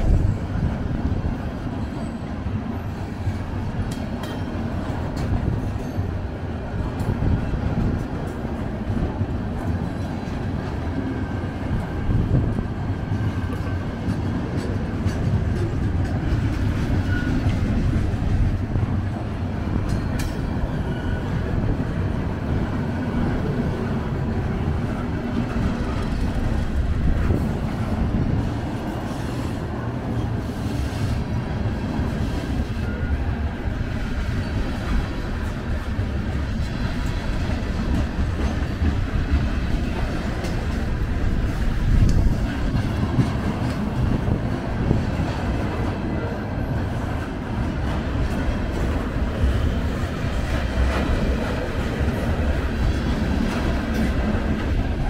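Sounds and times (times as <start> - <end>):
train clanks: 0.0 - 55.0
train wheels rumbling on rail: 0.0 - 55.0.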